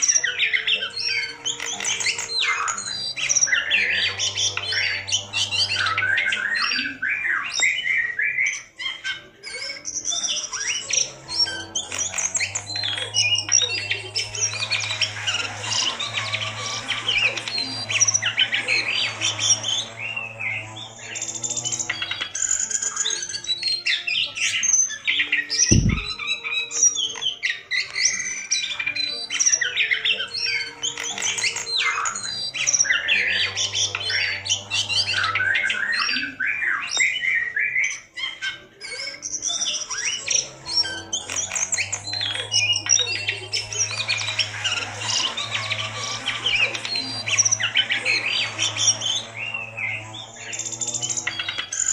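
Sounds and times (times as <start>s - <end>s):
caged bird singing chirps and trills: 0.0s - 51.9s.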